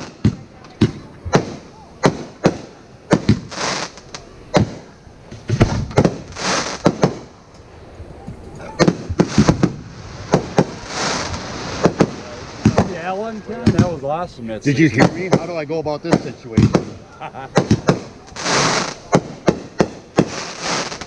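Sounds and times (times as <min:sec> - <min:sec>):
fireworks bangs: 0:00.0 - 0:07.6, 0:08.3 - 0:21.0
hissing crackle: 0:00.0 - 0:14.1, 0:14.7 - 0:21.0.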